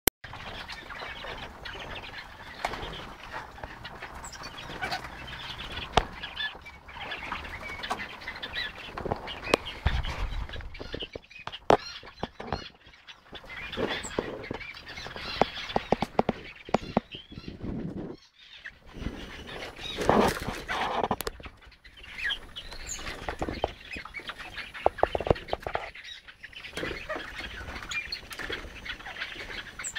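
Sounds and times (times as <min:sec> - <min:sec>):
rustling and scratching in litter: 0:00.3 - 0:18.2, 0:18.9 - 0:29.9.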